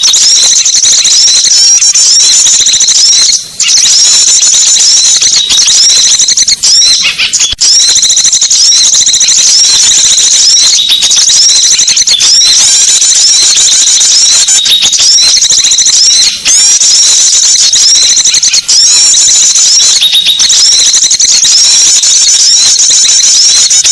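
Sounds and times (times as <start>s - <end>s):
high-pitched songbird chirping: 0.0s - 23.9s.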